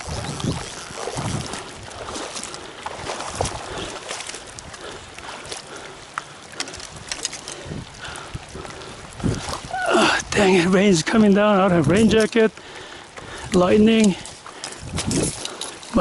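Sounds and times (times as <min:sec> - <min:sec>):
flowing river water: 0:00.0 - 0:16.0
small splashes: 0:00.0 - 0:16.0.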